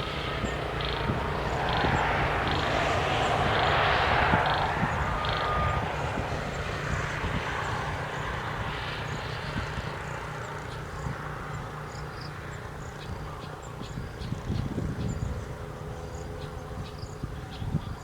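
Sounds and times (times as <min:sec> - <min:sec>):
steady rushing rumble: 0:00.0 - 0:18.0.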